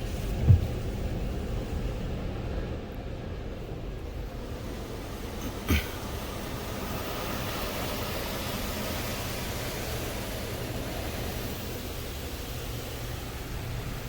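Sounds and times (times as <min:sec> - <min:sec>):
automatic car wash running: 0:00.0 - 0:14.0.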